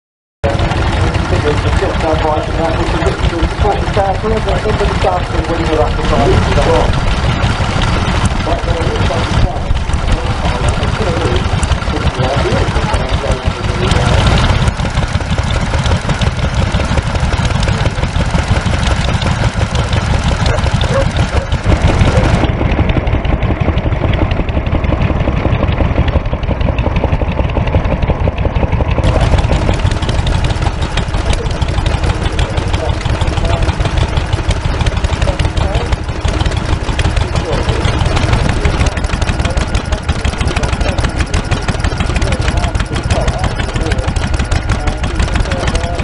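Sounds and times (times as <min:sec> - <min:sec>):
stationary engines running: 0:00.4 - 0:46.0.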